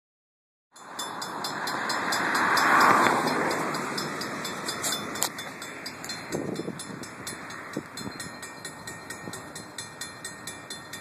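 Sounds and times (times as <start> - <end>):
diesel locomotive rumble: 0.8 - 11.0.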